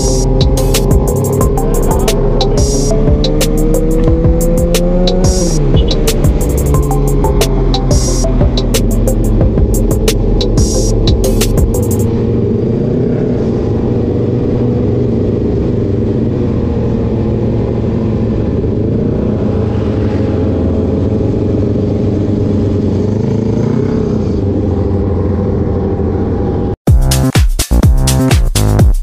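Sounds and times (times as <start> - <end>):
motorcycle engine cruising: 0.0 - 26.8.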